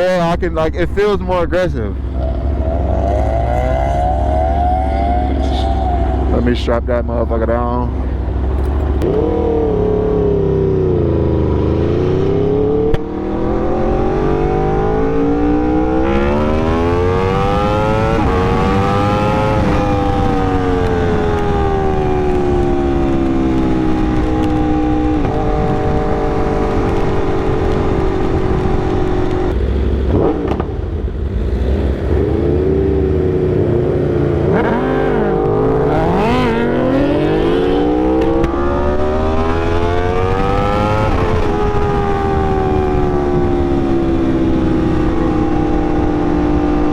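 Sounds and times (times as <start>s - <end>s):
motorcycle engine revving: 1.9s - 46.9s.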